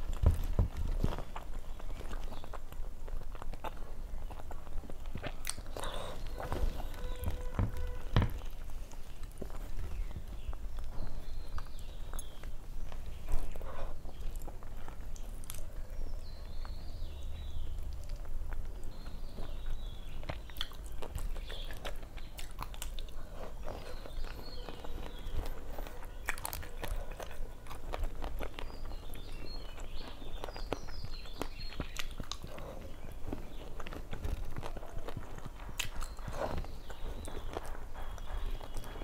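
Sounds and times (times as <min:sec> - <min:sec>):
chewing and mouth smacking: 0:00.0 - 0:39.0.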